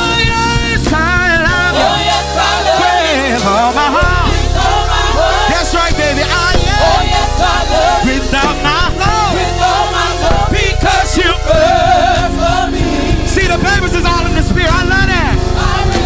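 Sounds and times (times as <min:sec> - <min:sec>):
band accompaniment: 0:00.0 - 0:16.0
choir singing: 0:00.0 - 0:16.0
lead voice singing vocal runs: 0:00.0 - 0:16.0.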